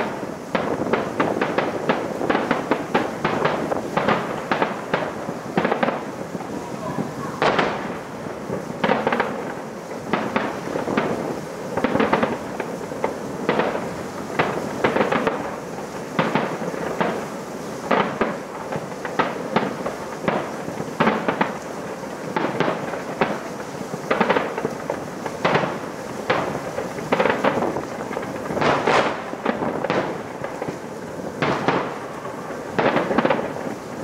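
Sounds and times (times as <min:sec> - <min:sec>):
firework shells bursting: 0:00.0 - 0:21.7, 0:22.3 - 0:34.0
firework crackle: 0:00.0 - 0:34.0.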